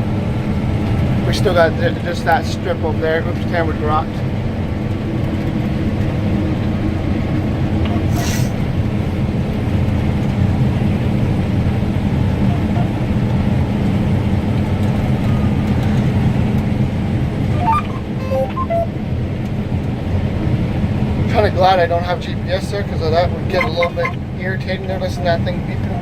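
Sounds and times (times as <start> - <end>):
combine harvester engine drone: 0.0 - 26.0.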